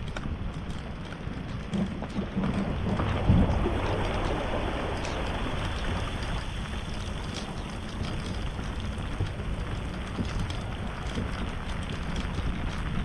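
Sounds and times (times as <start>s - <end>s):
low rumble of towed trailer: 0.0s - 13.0s
rain pattering: 0.0s - 13.0s
wind buffeting microphone: 0.0s - 13.0s.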